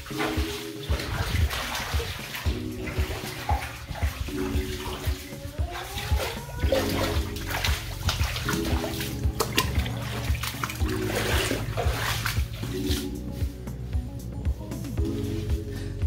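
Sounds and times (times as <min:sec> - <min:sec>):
background music with steady beat: 0:00.0 - 0:16.0.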